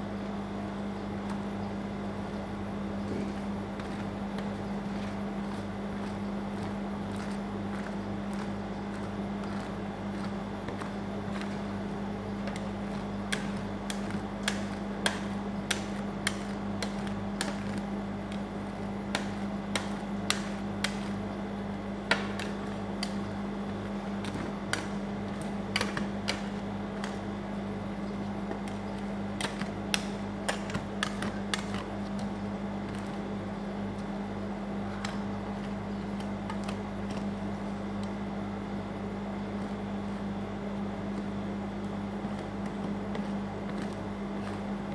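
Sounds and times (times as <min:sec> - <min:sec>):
refrigeration unit hum: 0:00.0 - 0:44.9.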